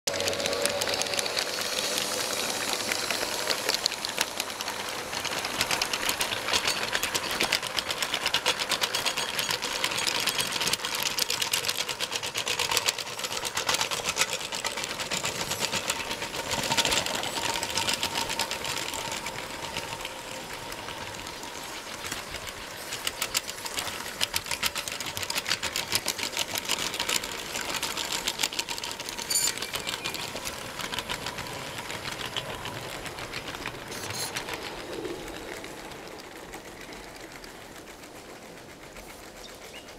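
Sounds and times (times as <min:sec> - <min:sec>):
model train wheels clicking on rails: 0:00.0 - 0:39.9.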